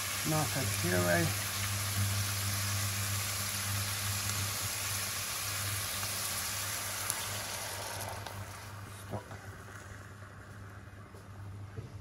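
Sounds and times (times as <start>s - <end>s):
food sizzling in oil: 0.0s - 10.7s.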